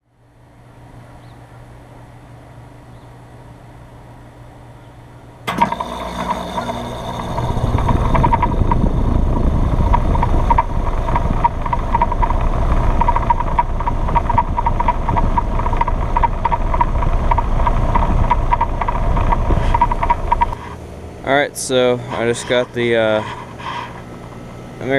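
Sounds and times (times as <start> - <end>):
heat pump running with pulsing hum: 0.0 - 24.9.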